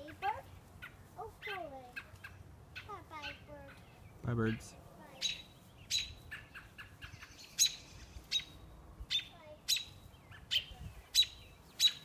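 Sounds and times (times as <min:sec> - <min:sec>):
songbirds chip calls: 0:00.0 - 0:12.0.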